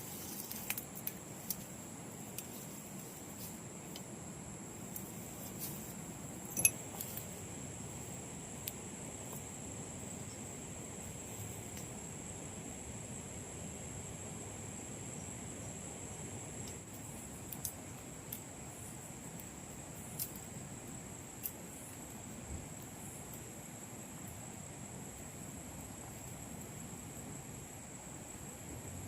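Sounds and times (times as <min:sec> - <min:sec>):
insects droning: 0:00.0 - 0:29.0
low background hiss: 0:00.0 - 0:29.0.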